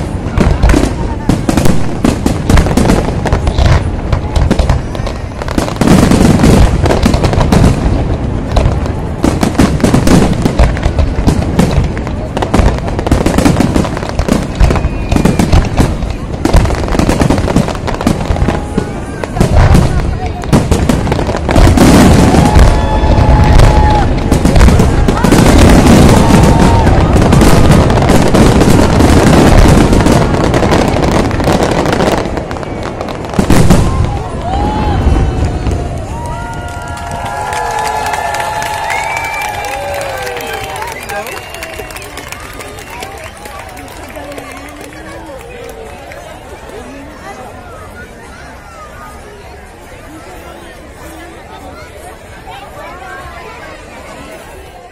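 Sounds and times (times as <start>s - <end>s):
fireworks booming and crackling: 0.0s - 54.9s.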